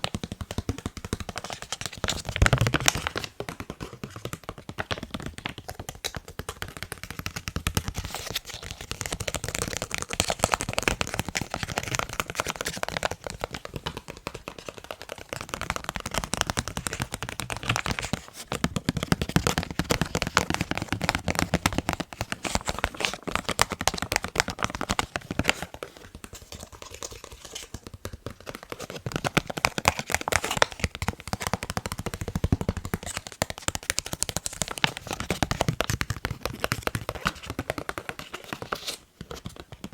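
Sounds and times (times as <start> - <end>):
rapid tapping on face mask: 0.0 - 39.9.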